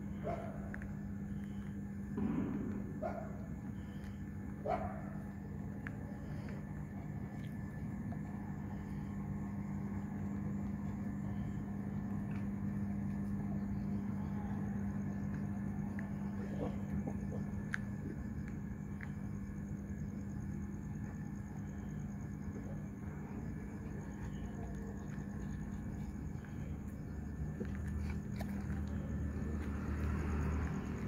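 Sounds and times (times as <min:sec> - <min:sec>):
low hum and rumble: 0:00.0 - 0:31.0.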